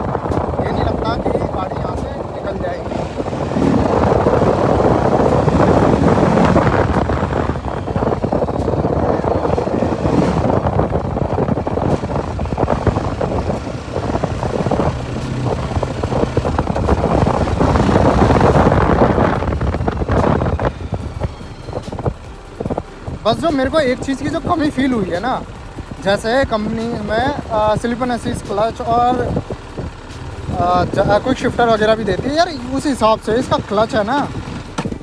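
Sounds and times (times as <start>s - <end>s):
motorcycle engine running: 0.0s - 35.0s
wind on microphone: 0.0s - 35.0s.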